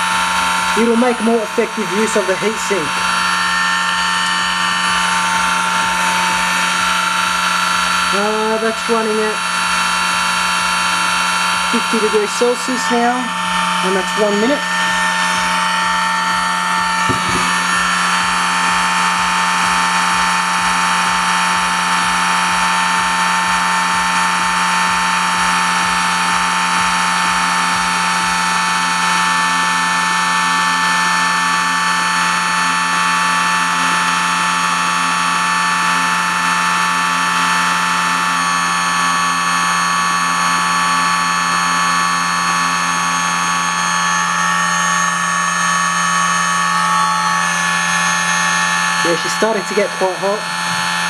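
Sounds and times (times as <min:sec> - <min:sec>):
electric motor whine: 0:00.0 - 0:51.0.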